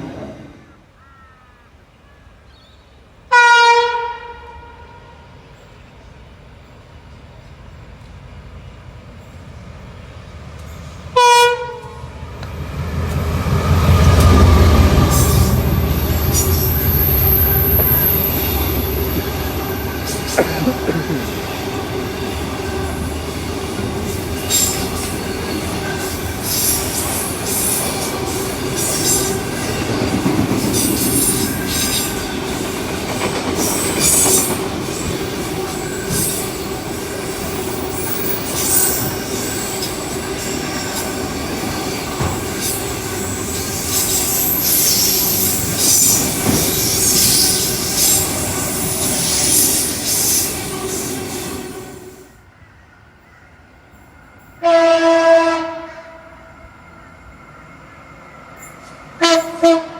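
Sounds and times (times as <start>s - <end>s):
train running on rails: 0.0s - 1.0s, 2.9s - 59.9s.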